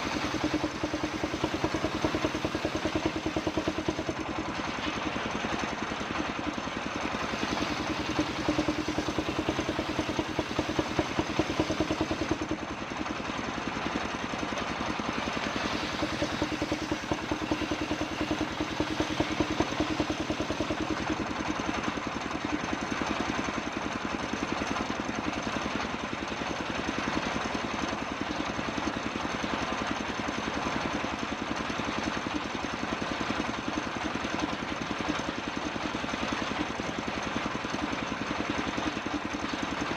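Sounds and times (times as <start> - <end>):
saw engine chugging: 0.0 - 39.9.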